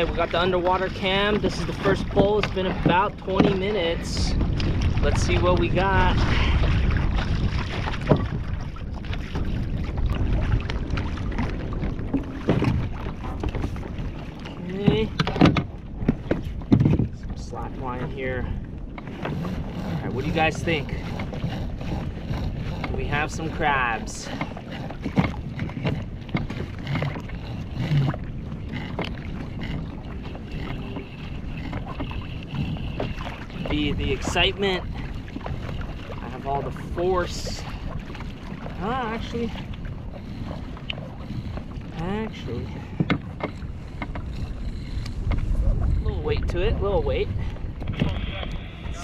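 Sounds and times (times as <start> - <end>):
knocks and clicks of rope hauling: 0.0 - 48.6
wind rumbling on microphone: 0.0 - 49.0.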